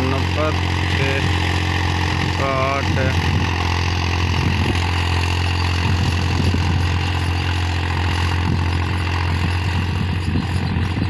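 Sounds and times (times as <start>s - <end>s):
tractor diesel engine humming: 0.0s - 11.0s.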